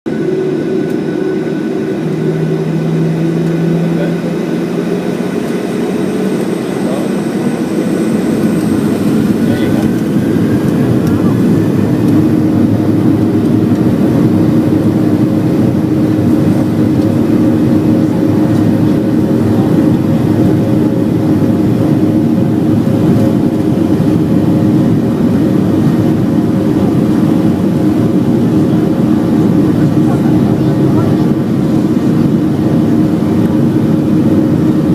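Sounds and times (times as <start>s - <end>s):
jet engines rumbling in cabin: 0.1s - 34.9s.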